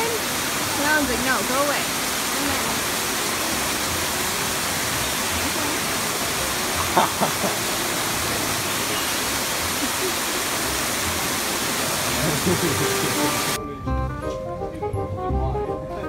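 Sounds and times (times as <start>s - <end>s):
running water rushing: 0.0s - 13.6s.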